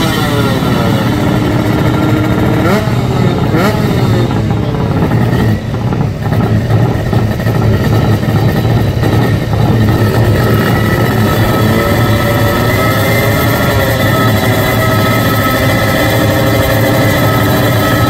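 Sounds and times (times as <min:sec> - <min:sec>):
motorcycle engine running loudly: 0:00.0 - 0:18.0.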